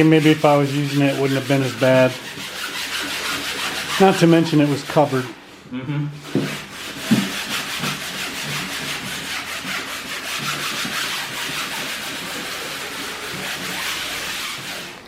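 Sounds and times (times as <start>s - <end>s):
brush scrubbing: 0.0s - 5.5s, 6.2s - 15.0s.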